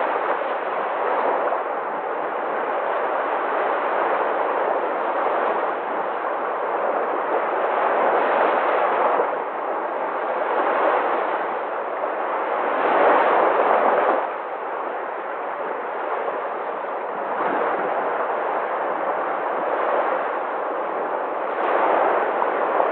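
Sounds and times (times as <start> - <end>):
sea waves washing ashore: 0.0 - 22.9.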